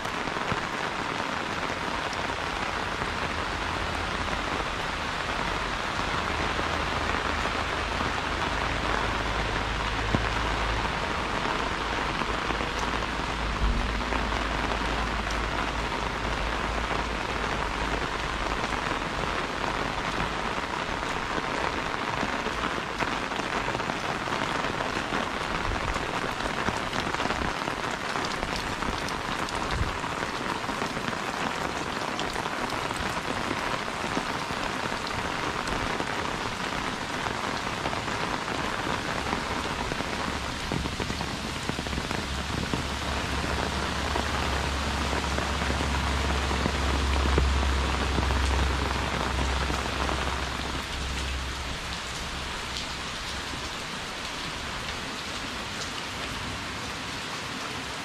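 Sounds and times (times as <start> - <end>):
rain on an umbrella: 0.0 - 58.0
rain on wet ground: 0.0 - 58.0.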